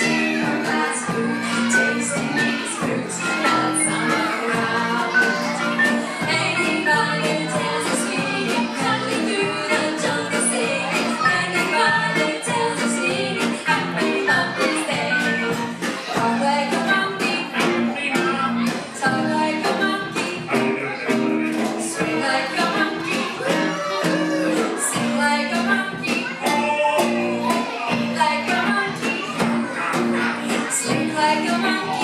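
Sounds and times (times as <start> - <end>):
live band playing upbeat song: 0.0 - 32.0
person singing: 0.0 - 32.0.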